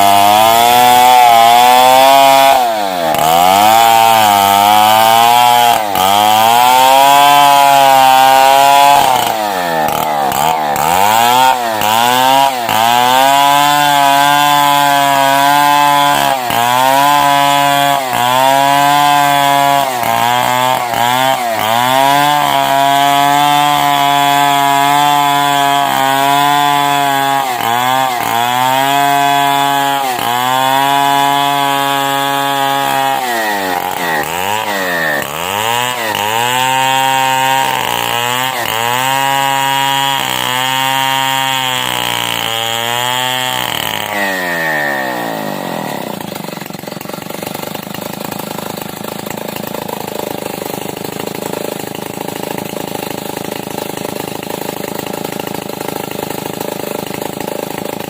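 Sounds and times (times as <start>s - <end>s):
chainsaw cutting a log: 0.0s - 58.0s.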